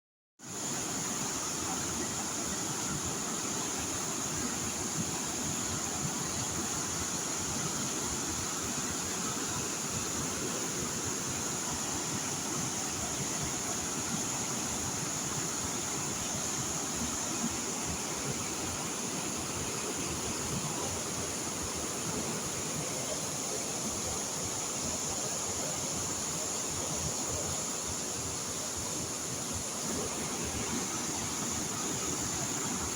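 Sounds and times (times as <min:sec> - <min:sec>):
rushing water: 0:00.4 - 0:32.9
thin high-pitched hiss: 0:00.4 - 0:32.9.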